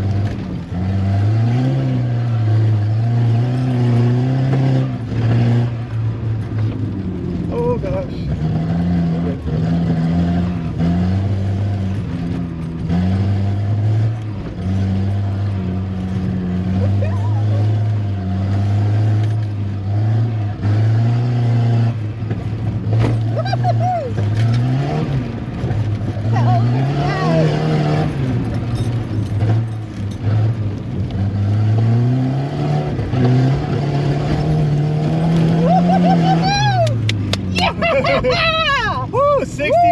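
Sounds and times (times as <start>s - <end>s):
car engine working hard: 0.0s - 39.9s.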